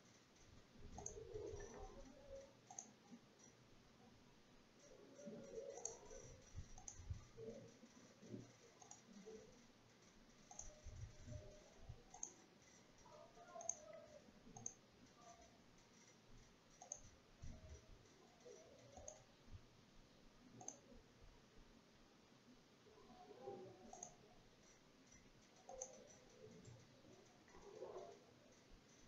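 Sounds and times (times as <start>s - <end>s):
computer mouse clicks: 0.1s - 3.6s, 4.8s - 19.3s, 20.5s - 20.9s, 23.8s - 29.0s.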